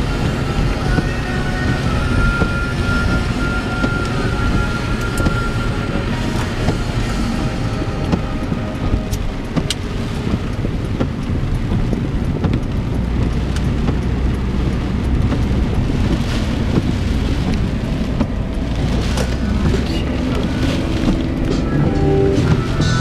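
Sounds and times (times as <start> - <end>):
engine and tyres on wet road: 0.0 - 23.0
rain against glass: 0.0 - 23.0
wind buffeting microphone: 0.0 - 23.0.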